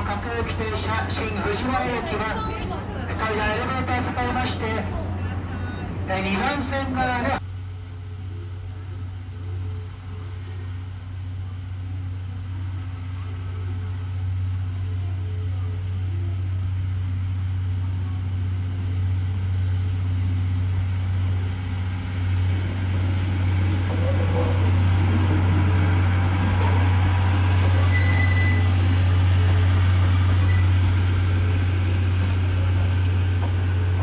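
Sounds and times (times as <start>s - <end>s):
diesel train engine drone: 0.0s - 34.0s
rail and wheel sounds: 0.0s - 34.0s.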